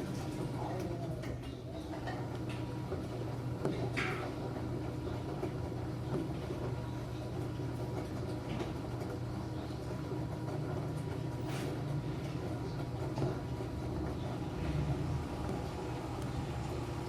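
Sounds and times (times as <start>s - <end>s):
washing machine motor humming: 0.0s - 17.0s.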